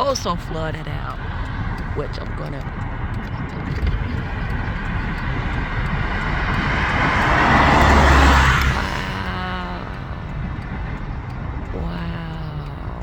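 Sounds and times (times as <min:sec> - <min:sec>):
low rumble of traffic: 0:00.0 - 0:13.0
vehicle passing close by: 0:00.0 - 0:13.0.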